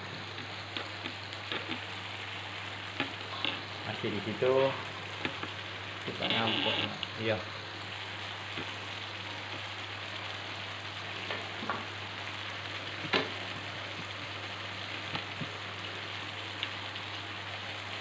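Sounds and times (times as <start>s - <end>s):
spice paste sizzling in oil: 0.0s - 18.0s.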